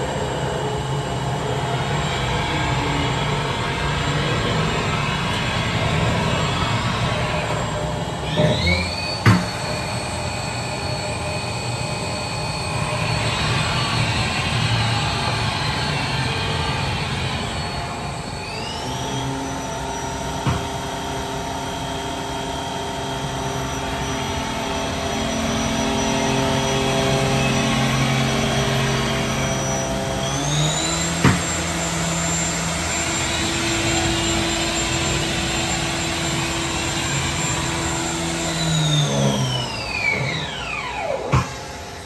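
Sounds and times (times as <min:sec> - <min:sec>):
machining center motor whine: 0:00.0 - 0:42.0.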